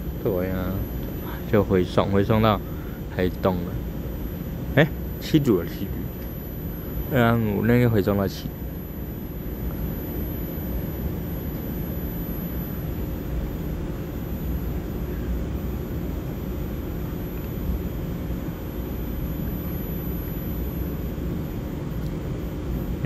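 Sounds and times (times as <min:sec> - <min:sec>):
electric train equipment humming: 0:00.0 - 0:23.0
faint constant tones: 0:00.0 - 0:23.0.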